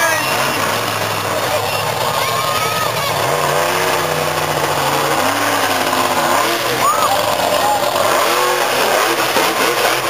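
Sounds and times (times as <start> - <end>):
noisy crowd: 0.0 - 10.0
truck engine revving: 0.0 - 10.0.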